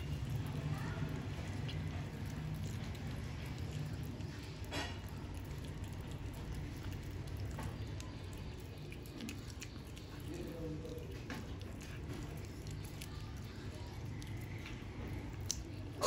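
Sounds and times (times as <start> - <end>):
cat chewing raw fish: 0.0 - 16.0.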